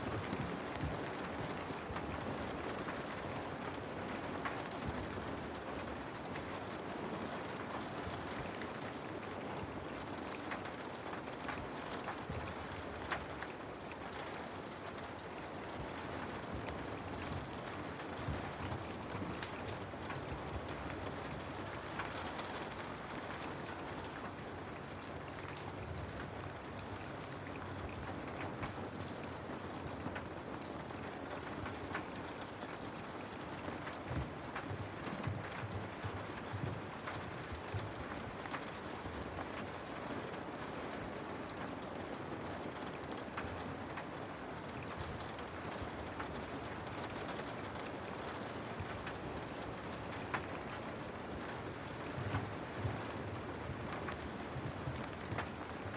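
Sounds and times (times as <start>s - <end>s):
steady rain: 0.0s - 55.9s
drops ticking on window: 10.0s - 41.8s, 42.4s - 55.9s.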